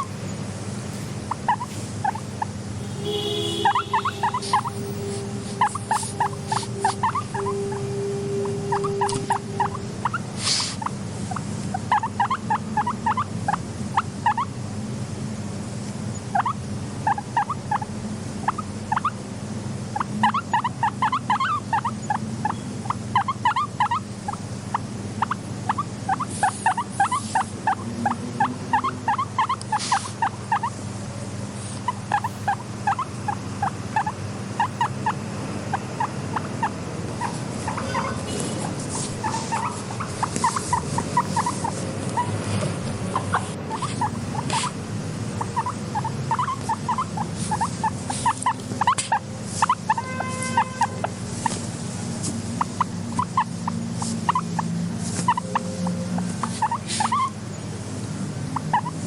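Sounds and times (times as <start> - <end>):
guinea pig squeaking: 0.0 - 14.6, 16.1 - 19.2, 19.9 - 30.8, 31.5 - 57.6, 58.4 - 59.0
steady low hum: 0.0 - 59.0.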